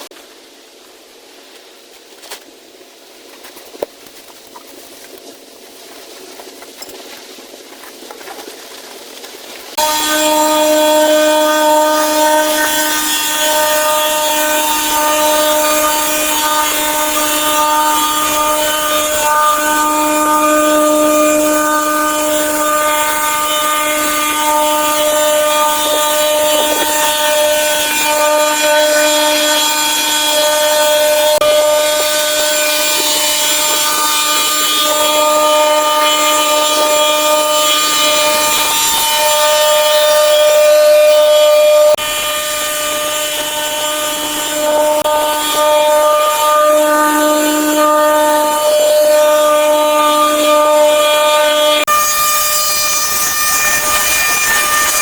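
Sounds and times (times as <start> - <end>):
power tool motor whining: 9.8 - 55.0.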